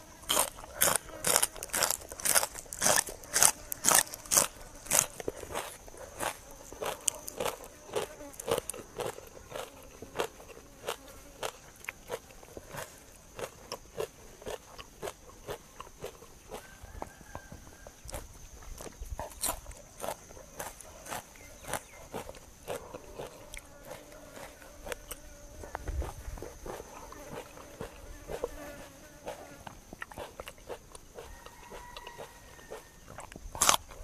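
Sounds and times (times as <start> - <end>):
person chewing crunchy vegetables: 0.0 - 34.0.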